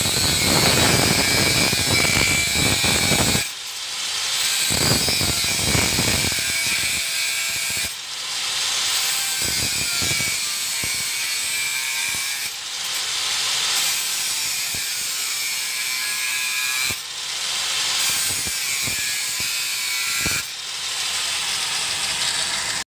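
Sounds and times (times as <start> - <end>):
angle grinder cutting metal: 0.0 - 22.9.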